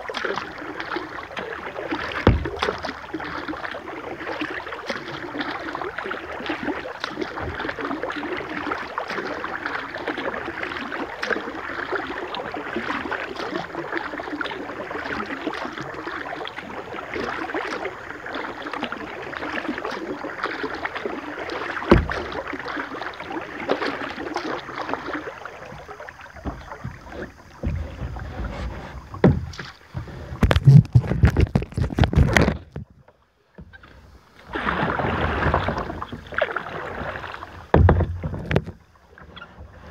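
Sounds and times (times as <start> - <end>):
water rushing around kayak: 0.0 - 39.9.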